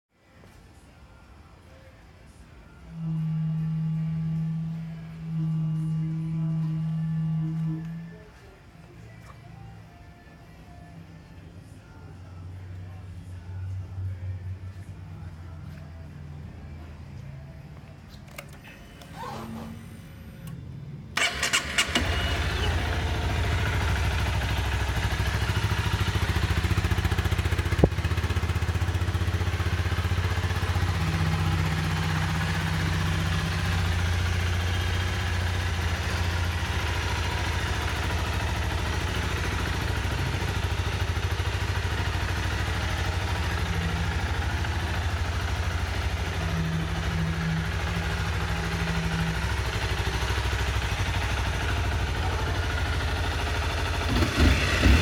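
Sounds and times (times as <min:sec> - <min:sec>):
motorcycle engine starting and idling: 0:02.9 - 0:55.0.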